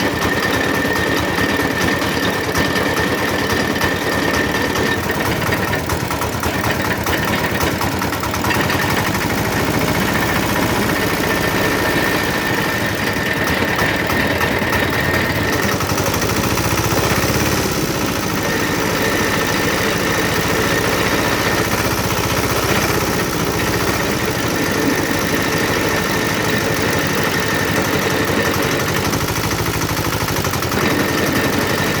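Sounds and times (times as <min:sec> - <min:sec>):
juice machine rumbling: 0:00.0 - 0:32.0.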